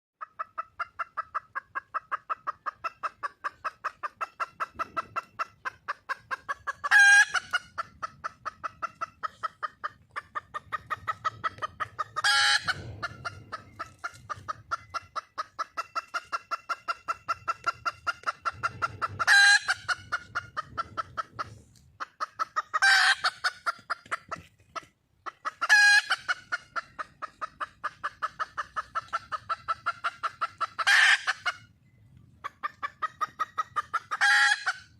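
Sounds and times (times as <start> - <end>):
hen clucking: 0.2 - 34.9.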